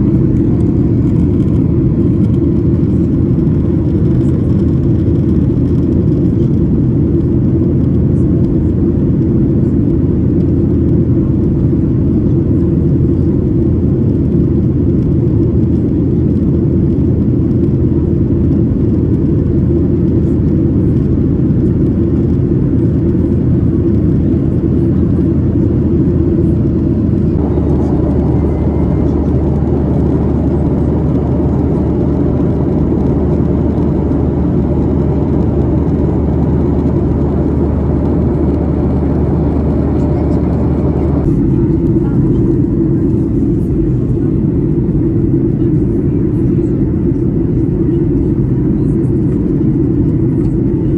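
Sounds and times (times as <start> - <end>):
jet engine and airflow rumble: 0.0 - 50.9.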